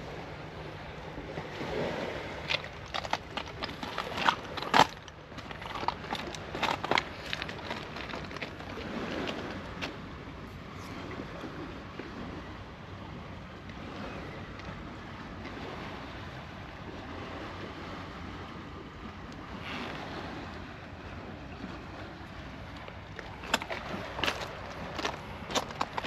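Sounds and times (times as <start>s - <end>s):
sea surf: 0.0s - 5.3s, 5.9s - 26.0s
wind buffeting microphone: 0.0s - 26.0s.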